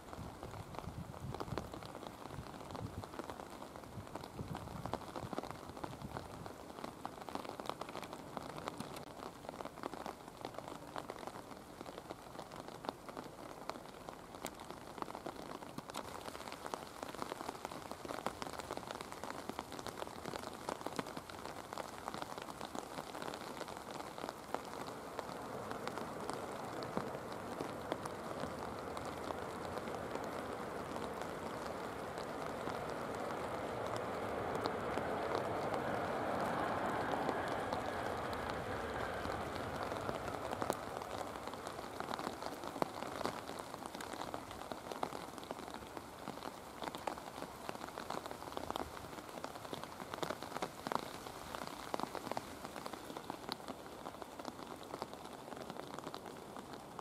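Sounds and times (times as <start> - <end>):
heavy rain falling: 0.0 - 57.0
raindrops ticking and tapping: 0.0 - 57.0.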